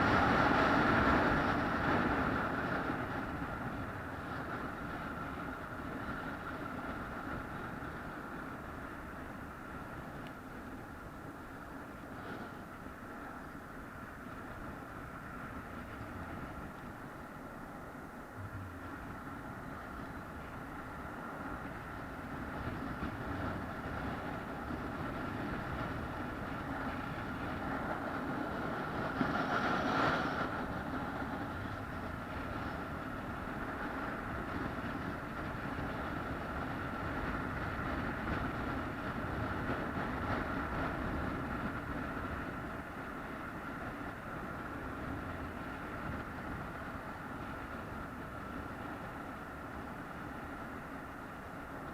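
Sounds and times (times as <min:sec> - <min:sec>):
constant whine: 0:00.0 - 0:51.9
vehicle rumble: 0:00.0 - 0:51.9.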